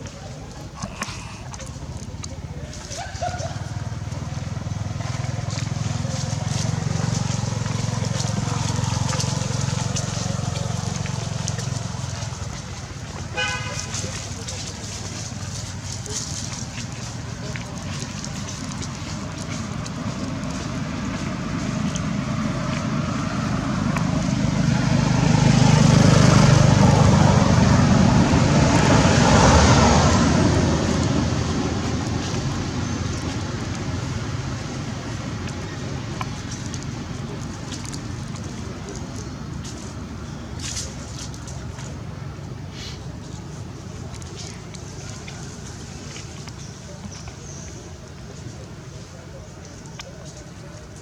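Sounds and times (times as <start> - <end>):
vehicle passing by: 0.0 - 51.0.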